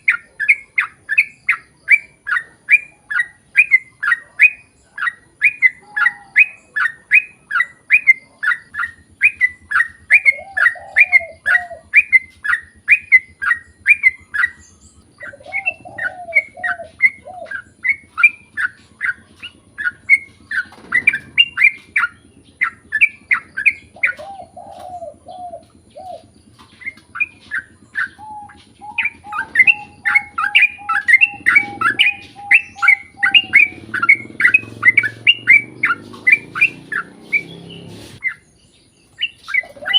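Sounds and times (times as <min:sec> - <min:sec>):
bird chirping: 0:00.0 - 0:39.9
bird warbling: 0:00.0 - 0:39.9.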